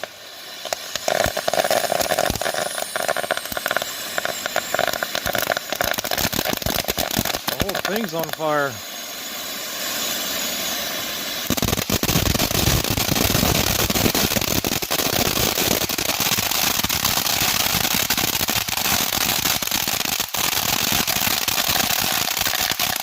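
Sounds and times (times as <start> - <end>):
firework crackling: 0.0 - 23.0
firework hissing: 0.0 - 23.0.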